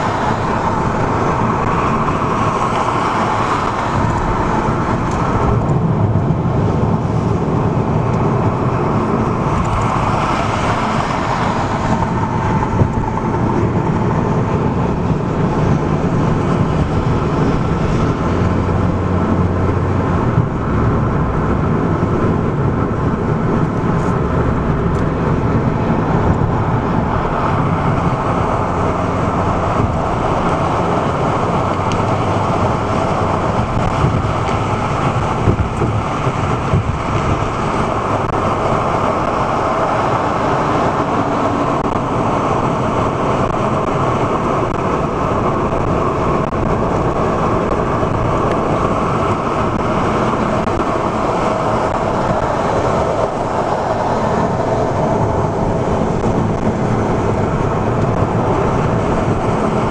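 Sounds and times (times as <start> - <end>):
car road noise from cabin: 0.0 - 59.9
tyre and engine rumble: 0.0 - 59.9.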